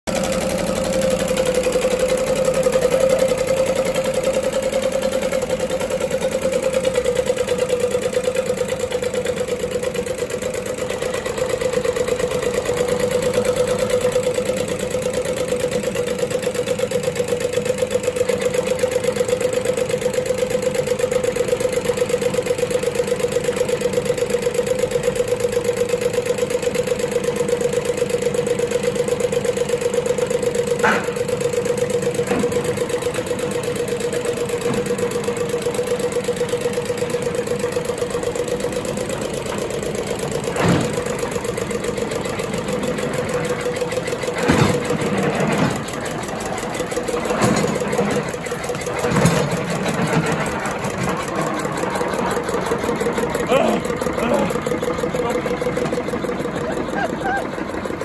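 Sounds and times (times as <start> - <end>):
diesel tractor engine idling: 0.0 - 58.0.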